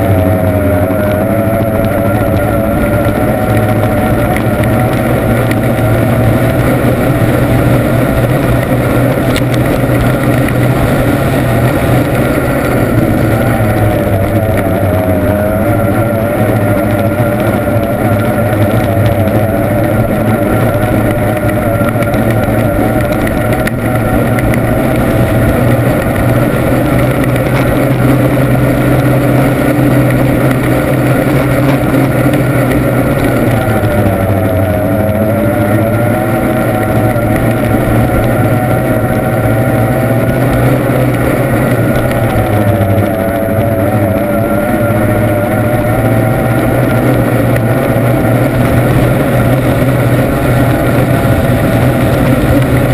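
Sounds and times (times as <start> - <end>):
outboard boat engine racing: 0.0 - 52.9
steady rush of noise: 0.0 - 52.9.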